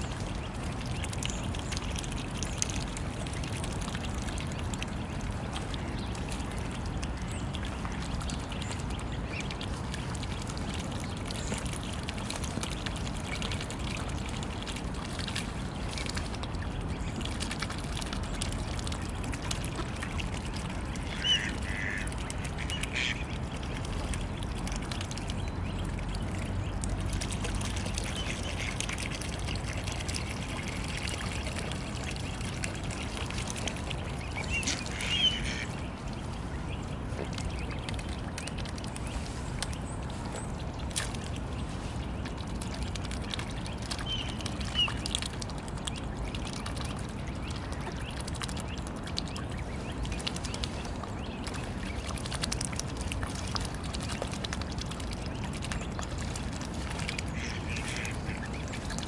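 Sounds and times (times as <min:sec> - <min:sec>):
swans slurping and splashing water: 0:00.0 - 0:59.0.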